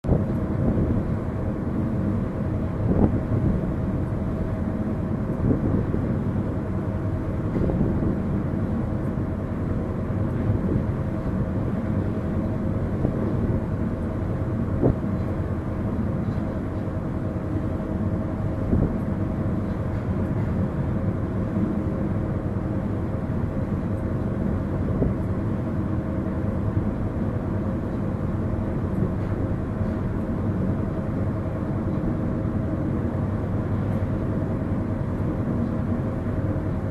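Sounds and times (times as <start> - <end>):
ship engine low rumble: 0.0 - 36.9.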